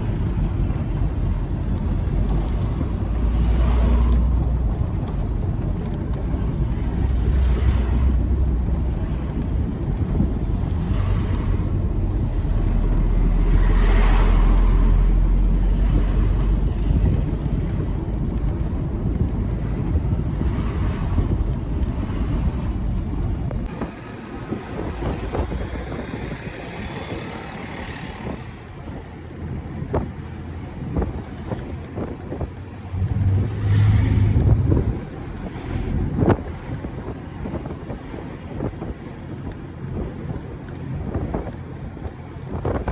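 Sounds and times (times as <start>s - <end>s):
road noise: 0.0s - 42.9s
truck engine drone: 0.0s - 42.9s.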